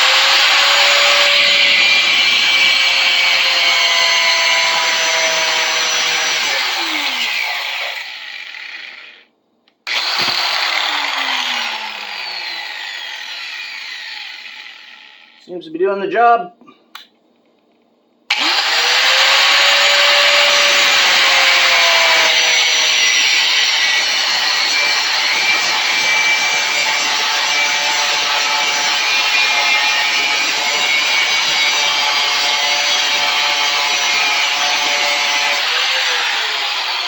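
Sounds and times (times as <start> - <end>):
angle grinder cutting steel: 0.0 - 9.3, 9.9 - 15.4, 18.3 - 37.0.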